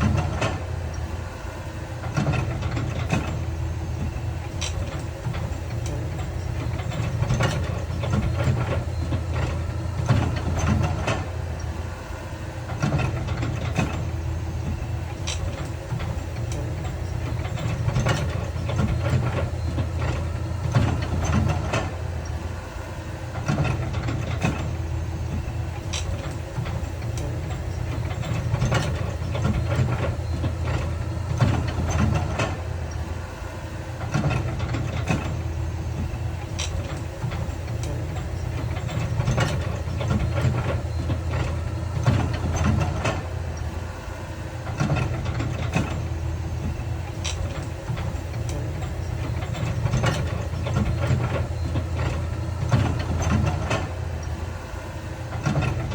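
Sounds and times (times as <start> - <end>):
heavy diesel machinery running: 0.0 - 55.9.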